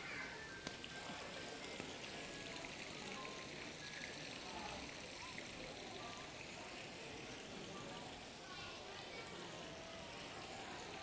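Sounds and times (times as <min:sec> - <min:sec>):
crowd and hall noise: 0:00.0 - 0:11.0
faint music: 0:00.0 - 0:11.0.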